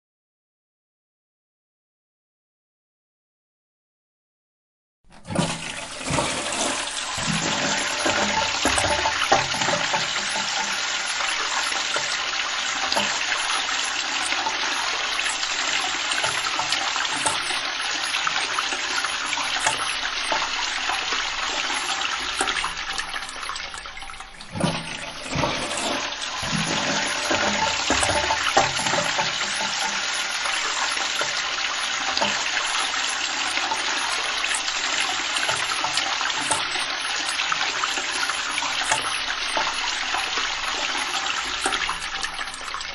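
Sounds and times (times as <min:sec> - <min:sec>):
toilet flushing: 0:05.1 - 0:42.9
water gurgling: 0:05.2 - 0:42.9.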